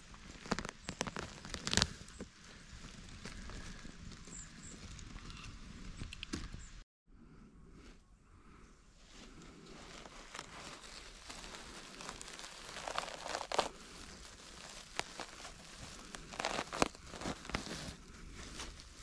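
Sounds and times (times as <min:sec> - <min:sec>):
grass and dry leaves rustling: 0:00.0 - 0:06.0, 0:09.0 - 0:19.0.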